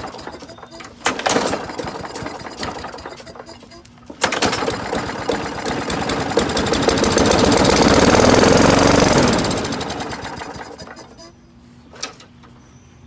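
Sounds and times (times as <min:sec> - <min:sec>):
lawnmower engine running: 0:00.0 - 0:12.3.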